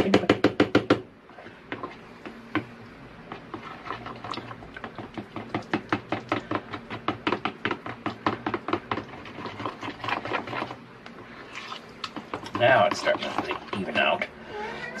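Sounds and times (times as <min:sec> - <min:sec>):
utensil stirring thick sauce in bowl: 0:01.2 - 0:14.2.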